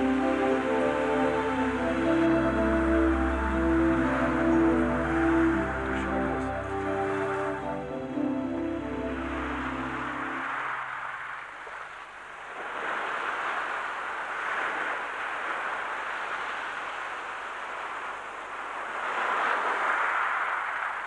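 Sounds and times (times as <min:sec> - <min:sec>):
small waves washing on sand: 0:00.0 - 0:21.0.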